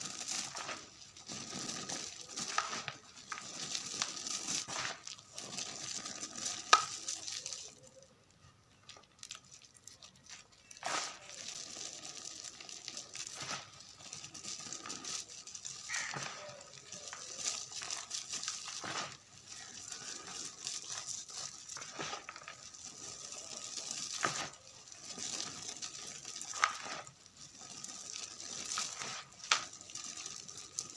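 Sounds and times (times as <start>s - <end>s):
chalk crumbling and crunching: 0.0s - 30.9s.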